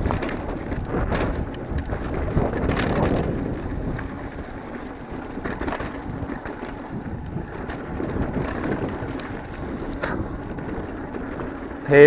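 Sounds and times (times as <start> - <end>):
bike clicking and knocking on rocks: 0.0 - 12.0
tyres rolling on dirt: 0.0 - 12.0
wind rushing over microphone: 0.0 - 12.0.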